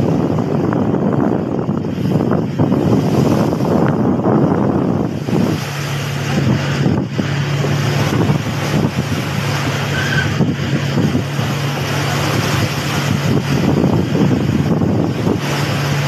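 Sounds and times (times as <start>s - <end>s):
boat engine humming: 0.0s - 16.0s
waves splashing against hull: 0.0s - 16.0s
wind on microphone: 0.0s - 16.0s.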